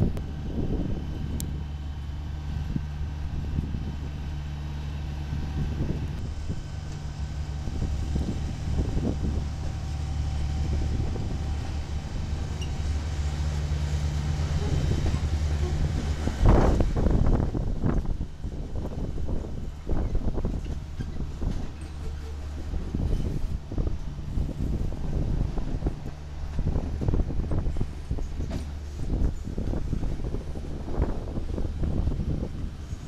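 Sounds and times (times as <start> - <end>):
wind on microphone: 0.0 - 1.7, 5.2 - 13.0, 14.3 - 33.0
diesel locomotive droning: 0.0 - 33.0
freight cars rumbling: 0.0 - 33.0.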